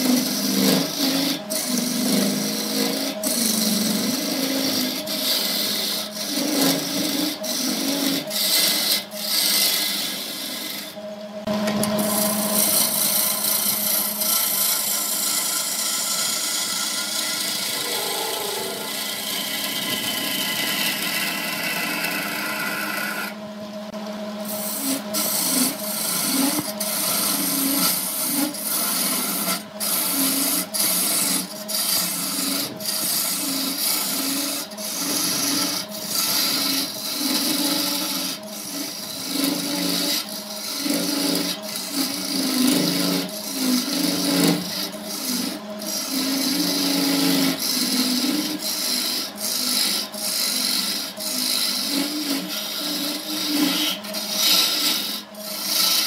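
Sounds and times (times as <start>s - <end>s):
chisel scraping spinning wood: 0.0s - 56.0s
wood lathe humming: 0.0s - 56.0s.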